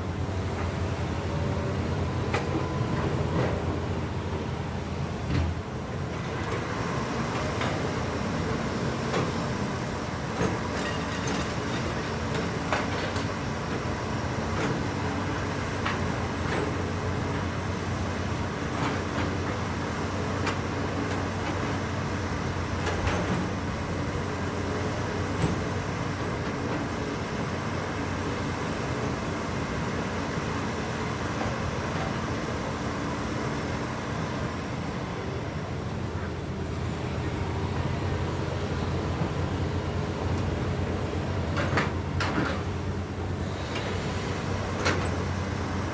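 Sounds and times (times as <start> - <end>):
heavy diesel machinery droning: 0.0 - 45.9.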